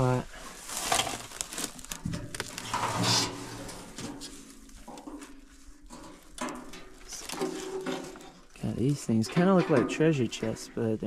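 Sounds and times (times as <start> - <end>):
brush rustling: 0.0 - 9.6
metal scraping: 2.0 - 11.0.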